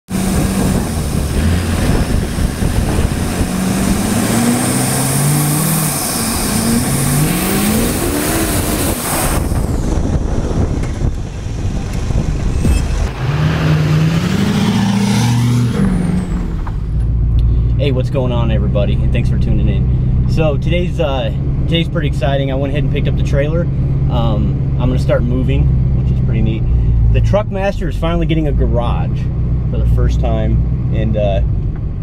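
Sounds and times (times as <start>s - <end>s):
diesel engine revving up: 0.1s - 32.0s.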